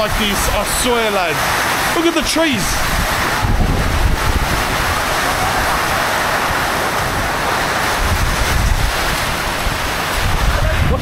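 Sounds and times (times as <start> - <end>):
torrential rain pouring: 0.0 - 11.0
wind gusting against microphone: 0.0 - 11.0.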